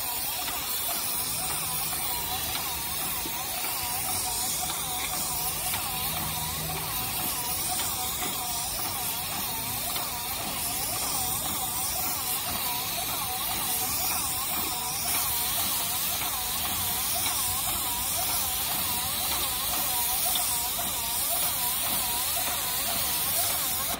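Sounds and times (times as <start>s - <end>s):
paint sprayer hissing: 0.0s - 23.9s
pump whine: 0.0s - 23.9s.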